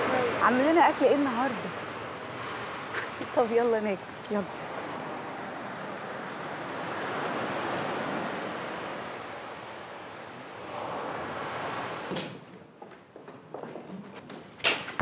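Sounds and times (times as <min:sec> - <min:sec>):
waves breaking on shore: 0:00.0 - 0:12.2.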